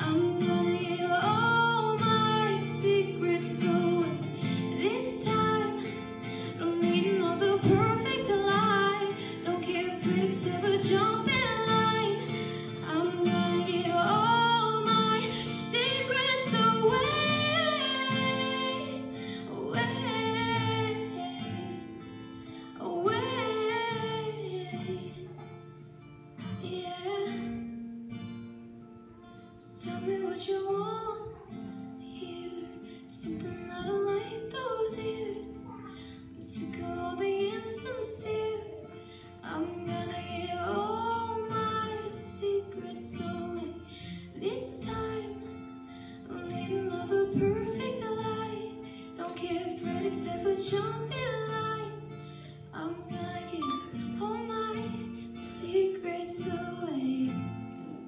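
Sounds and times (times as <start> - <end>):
woman singing: 0.0 - 28.0, 29.2 - 58.0
acoustic guitar: 0.0 - 58.0.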